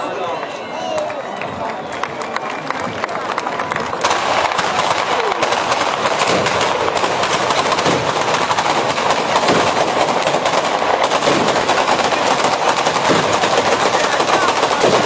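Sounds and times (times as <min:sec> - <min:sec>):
firecrackers going off: 0:00.0 - 0:15.0.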